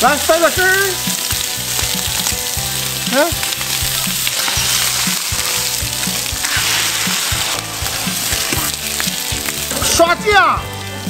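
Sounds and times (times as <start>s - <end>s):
squid sizzling in oil: 0.0s - 11.0s.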